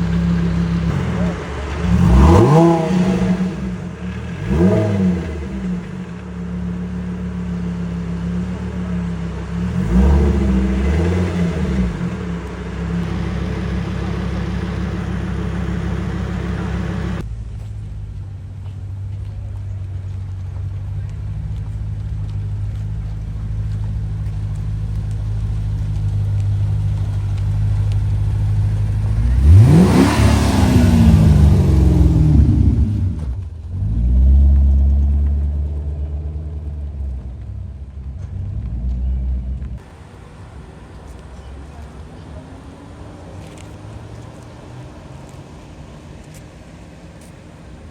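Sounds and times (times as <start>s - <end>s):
car engine revving: 0.0s - 17.8s, 19.6s - 47.9s
deep engine rumble: 0.0s - 47.9s.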